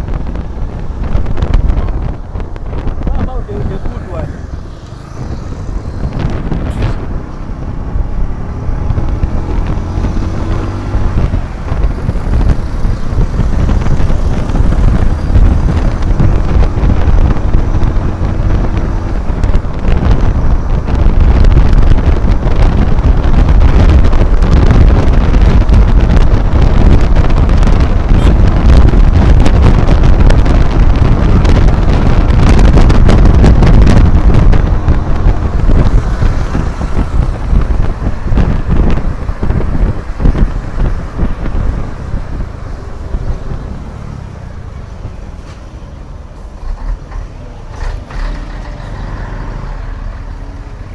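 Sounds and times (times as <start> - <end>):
motorcycle engine: 0.0 - 50.9
passing road traffic: 0.0 - 50.9
wind buffeting microphone: 0.0 - 50.9.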